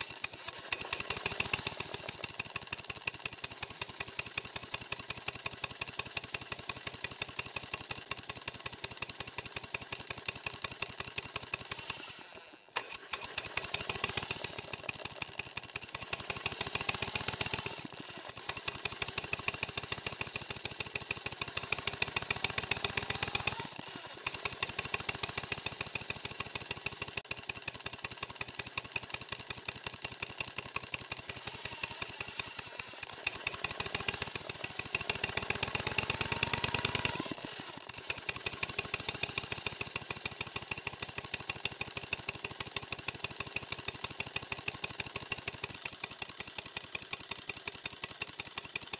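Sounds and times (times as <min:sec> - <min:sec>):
model steam engine exhaust beats: 0:00.0 - 0:48.9.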